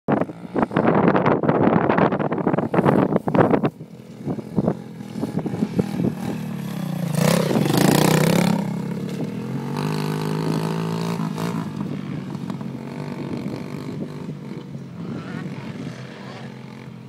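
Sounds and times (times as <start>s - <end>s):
dirt bike engine passing by: 0.1s - 17.0s.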